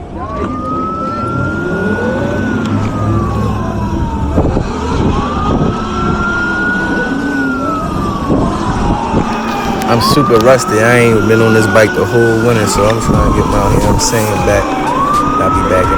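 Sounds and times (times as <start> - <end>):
emergency siren wailing: 0.0 - 15.9
wind and road noise: 0.0 - 15.9.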